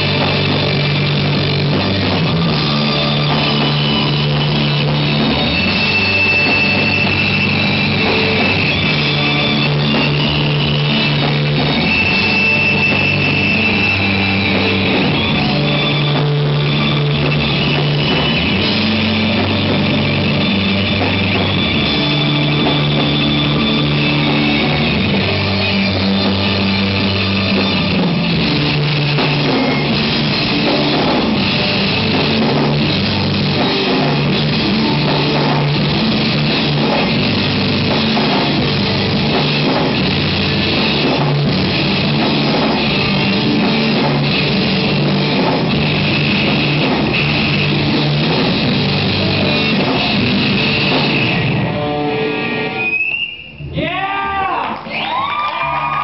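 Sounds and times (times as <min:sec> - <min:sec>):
electric guitars: 0:00.0 - 0:53.8
bass guitar notes: 0:00.0 - 0:55.0
drum kit: 0:00.0 - 0:56.0.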